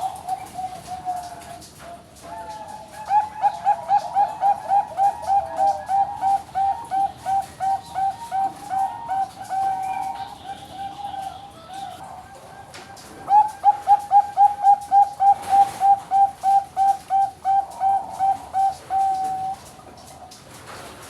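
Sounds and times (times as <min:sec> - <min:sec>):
dove cooing: 0:00.0 - 0:20.4.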